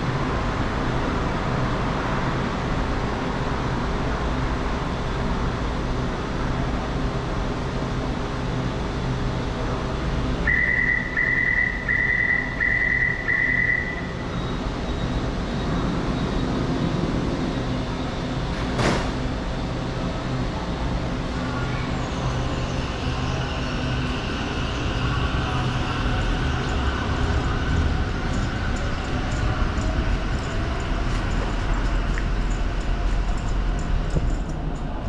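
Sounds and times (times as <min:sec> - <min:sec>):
train humming: 0:00.0 - 0:35.0.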